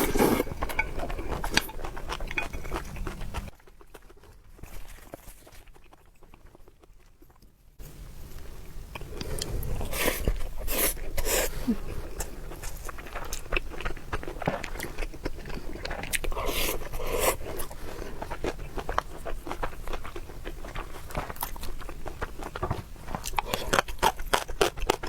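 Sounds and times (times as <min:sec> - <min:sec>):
biting and chewing: 0:00.0 - 0:07.5, 0:12.0 - 0:25.0.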